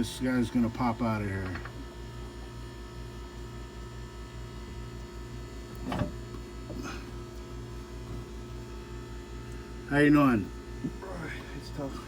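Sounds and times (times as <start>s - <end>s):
pulsing low machine hum: 0.0s - 12.0s.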